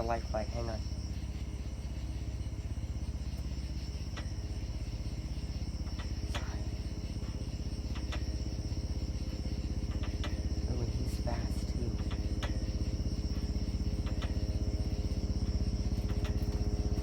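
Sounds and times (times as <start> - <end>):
crickets chirping: 0.0 - 17.0
helicopter rotor beating: 0.0 - 17.0.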